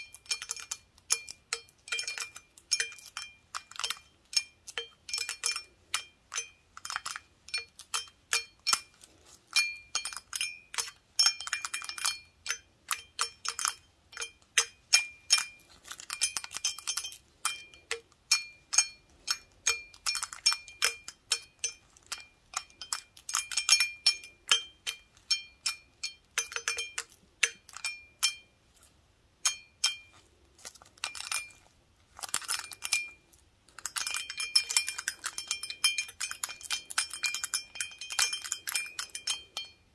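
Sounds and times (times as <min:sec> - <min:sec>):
toothpicks tapping glass: 0:00.0 - 0:28.5, 0:29.4 - 0:39.9.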